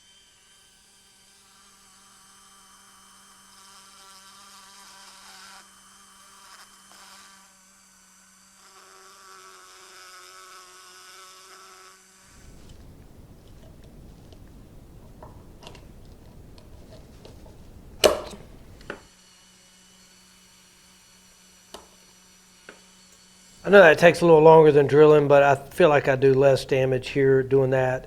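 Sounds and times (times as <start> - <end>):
rotary tool grinding whine: 0.0 - 24.5.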